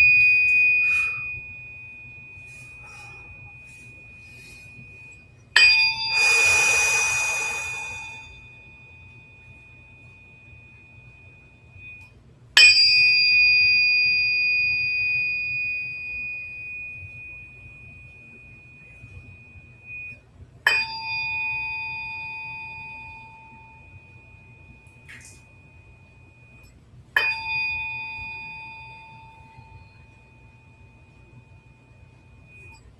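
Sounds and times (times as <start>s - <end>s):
metal tuning fork ringing: 0.0s - 32.9s.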